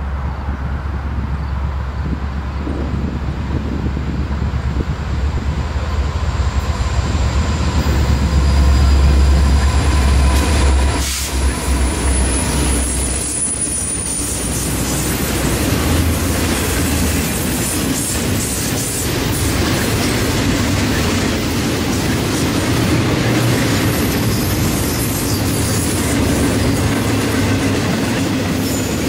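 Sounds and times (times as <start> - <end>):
diesel locomotive engines rumbling: 0.0 - 29.0
train wheels clattering over rails: 4.5 - 29.0.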